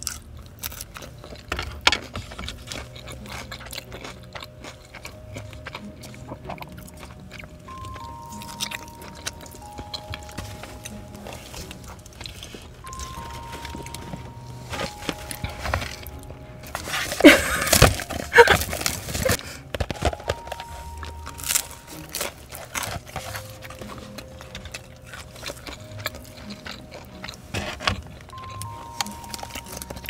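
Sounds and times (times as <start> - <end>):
chewing with crunches: 0.0 - 30.0
food packaging rustling: 0.0 - 30.0.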